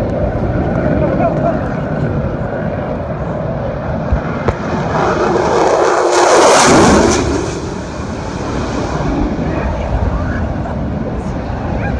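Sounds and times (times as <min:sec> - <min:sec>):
jet roar passing overhead: 0:00.0 - 0:11.9.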